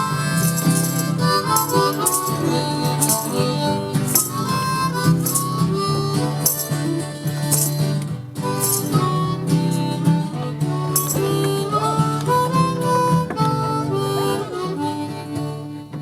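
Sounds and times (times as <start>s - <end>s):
bright beat: 0.0s - 14.4s
harmonica playing jig melody: 0.0s - 16.0s.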